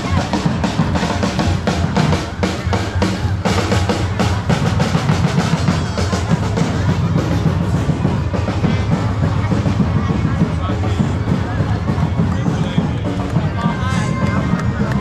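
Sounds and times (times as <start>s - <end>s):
fast drumming: 0.0s - 15.0s.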